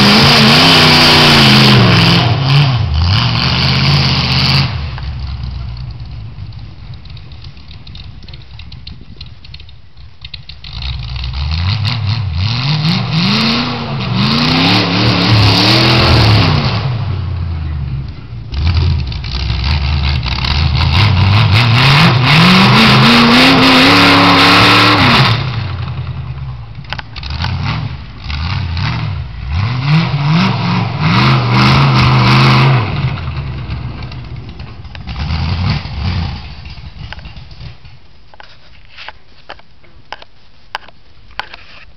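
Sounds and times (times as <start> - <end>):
vee eight engine revving: 0.0 - 6.5, 10.6 - 37.8.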